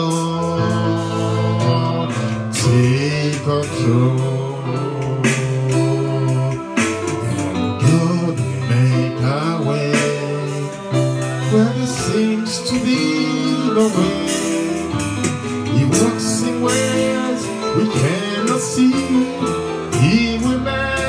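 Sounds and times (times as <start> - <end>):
song with singing and guitar: 0.0 - 21.0.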